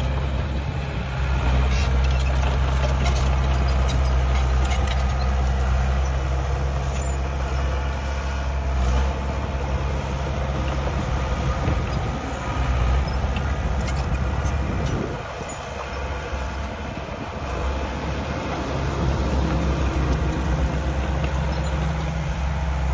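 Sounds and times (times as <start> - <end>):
diesel engine of heavy machinery: 0.0 - 22.9.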